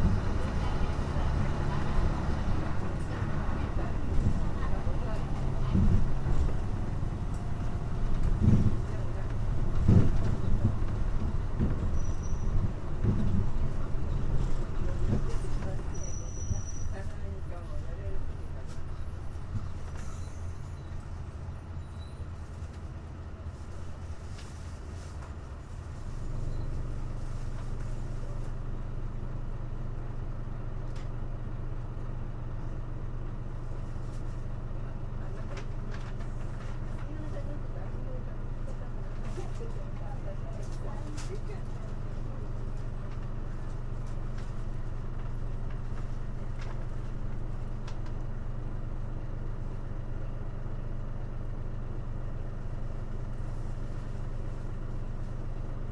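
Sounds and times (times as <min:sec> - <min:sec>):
bus diesel engine rumble: 0:00.0 - 0:55.9
road noise: 0:00.0 - 0:55.9.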